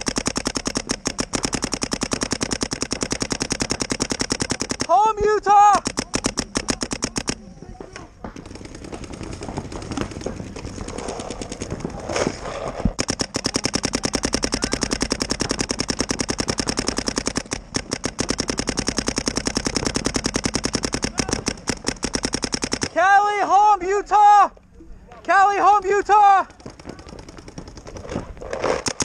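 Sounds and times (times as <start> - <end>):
paintball markers firing: 0.0 - 23.1, 25.5 - 29.0.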